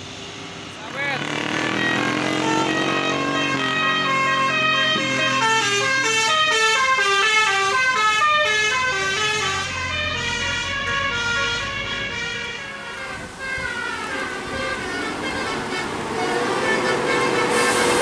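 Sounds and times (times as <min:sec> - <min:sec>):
bus air horn playing tune: 0:01.5 - 0:18.0.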